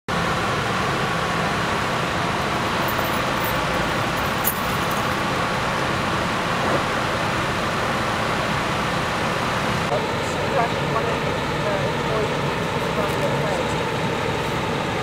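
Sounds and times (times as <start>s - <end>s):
road traffic noise: 0.1s - 15.0s.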